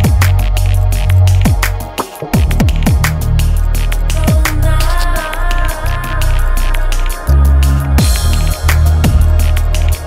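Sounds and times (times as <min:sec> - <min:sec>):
electronic music with fast drums: 0:00.0 - 0:10.0.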